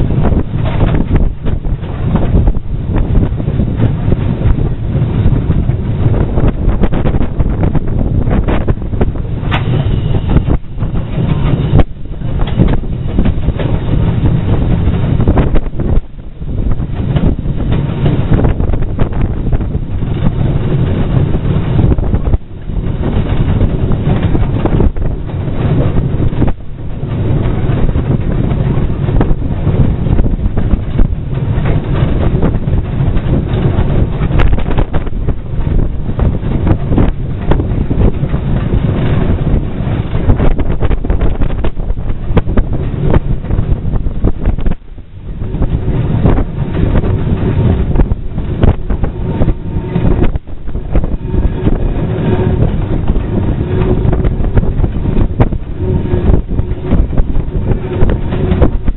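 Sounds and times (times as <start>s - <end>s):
moving train: 0.0s - 58.9s
wind buffeting microphone: 0.0s - 58.9s.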